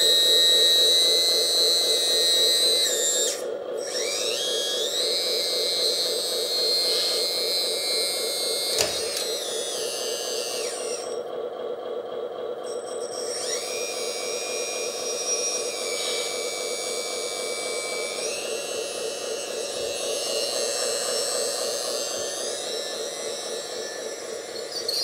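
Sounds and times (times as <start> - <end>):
hydraulic pump pulsing hum: 0.0 - 25.0.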